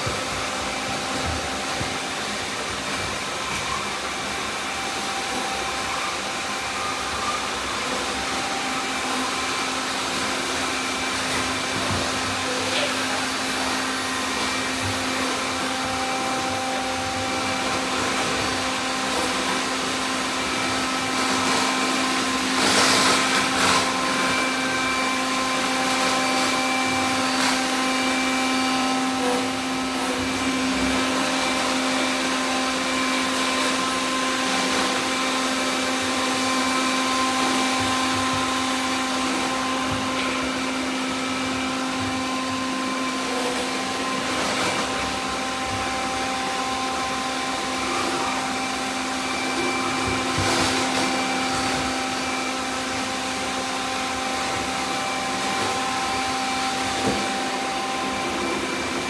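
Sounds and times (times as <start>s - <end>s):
robot vacuums whirring: 0.0s - 59.0s.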